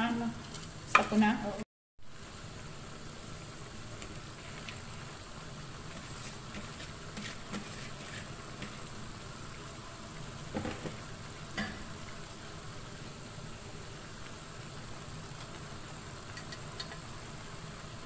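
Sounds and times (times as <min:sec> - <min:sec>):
vegetables sizzling in a wok: 0:00.0 - 0:18.0.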